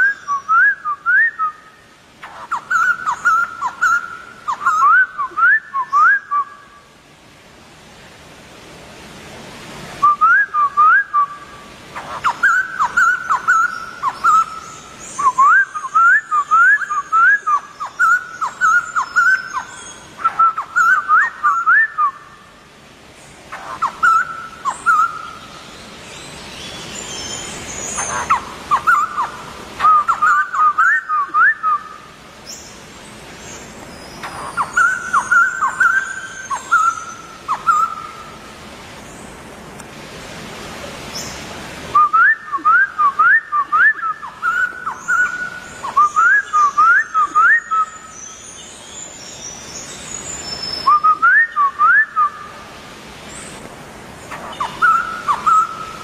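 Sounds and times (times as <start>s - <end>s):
bird singing whistled notes: 0.0s - 1.8s, 2.5s - 6.8s, 10.0s - 22.3s, 23.8s - 32.8s, 33.4s - 38.2s, 41.2s - 52.5s, 54.5s - 56.0s.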